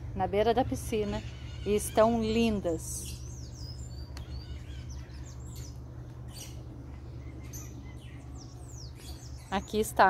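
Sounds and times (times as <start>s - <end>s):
steady low rumble: 0.0s - 10.0s
small birds chirping: 0.2s - 10.0s.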